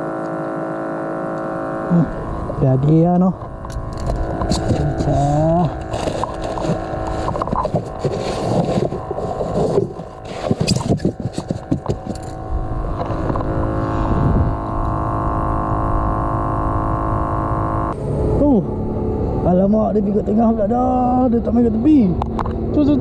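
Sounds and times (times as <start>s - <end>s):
engine hum: 0.0s - 23.0s.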